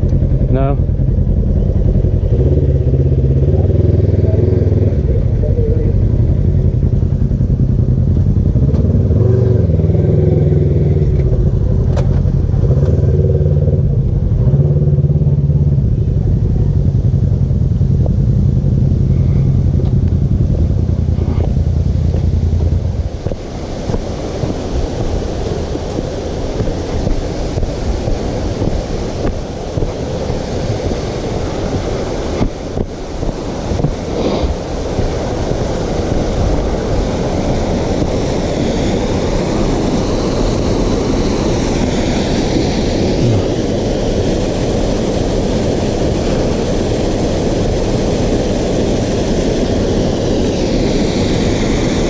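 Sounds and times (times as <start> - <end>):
off-road vehicle engine running: 0.0 - 52.0
rough rushing noise with crackles: 0.0 - 52.0.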